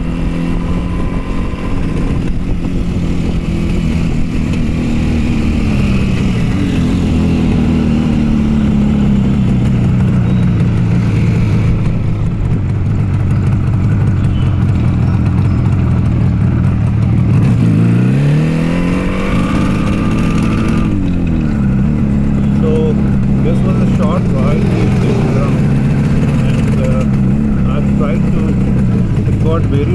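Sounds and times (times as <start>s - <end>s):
two-stroke motorcycle engine revving: 0.0s - 29.9s.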